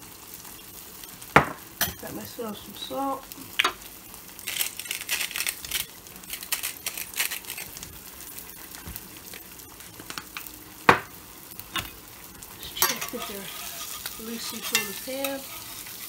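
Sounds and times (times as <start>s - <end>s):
eggs frying in butter: 0.0s - 16.0s.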